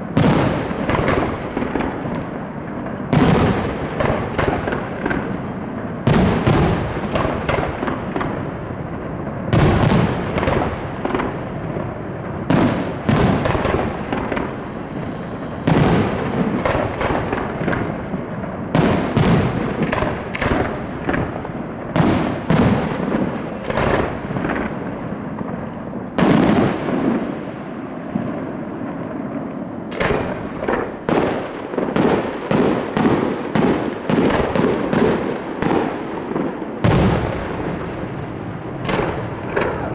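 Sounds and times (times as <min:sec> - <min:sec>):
fireworks bursting bangs: 0:00.0 - 0:39.9.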